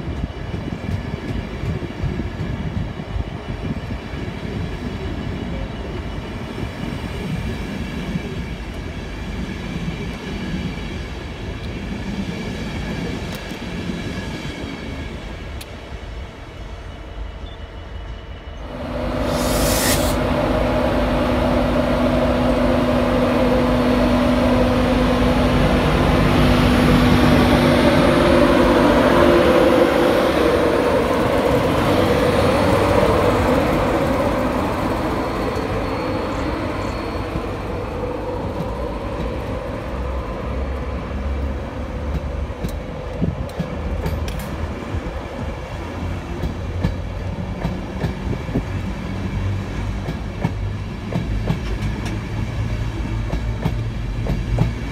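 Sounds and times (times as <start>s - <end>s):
electric locomotive hum: 0.0s - 54.9s.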